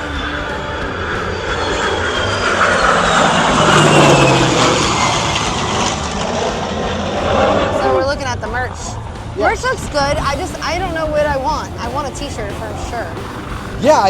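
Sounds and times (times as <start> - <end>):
aircraft flying past: 0.0 - 14.0.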